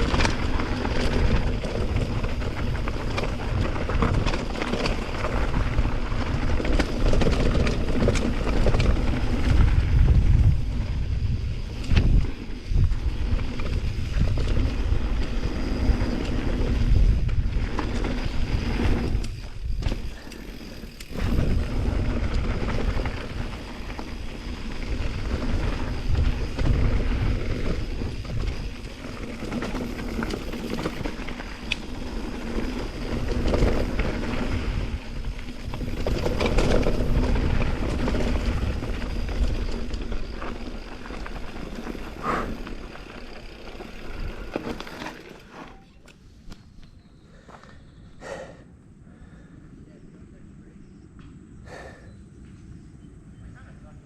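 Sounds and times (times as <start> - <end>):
wind buffeting microphone: 0.0 - 44.9
bike tyre and trail rumble: 0.0 - 54.0.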